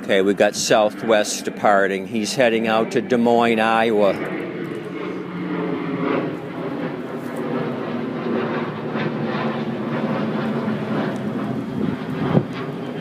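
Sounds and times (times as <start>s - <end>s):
jet engine drone overhead: 0.0s - 13.0s.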